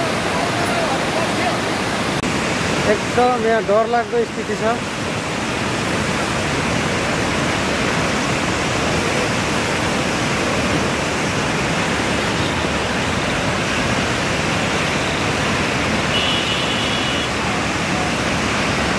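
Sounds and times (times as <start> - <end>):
flooded river rushing: 0.0 - 18.9.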